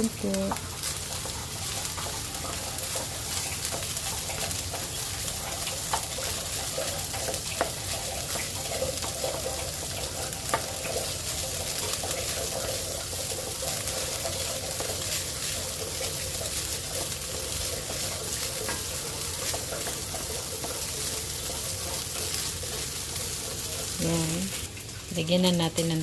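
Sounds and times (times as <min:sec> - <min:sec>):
rice sizzling in a frying pan: 0:00.0 - 0:26.0.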